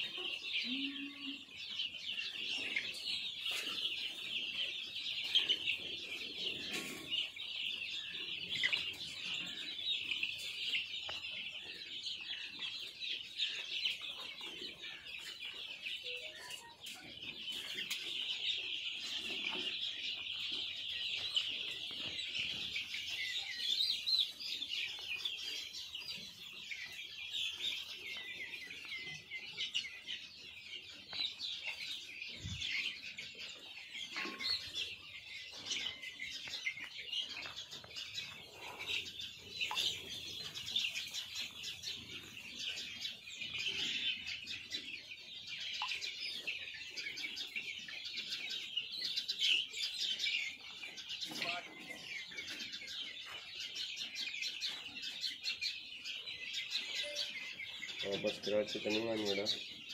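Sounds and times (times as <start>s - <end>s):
chicks peeping and cheeping: 0.0s - 59.9s.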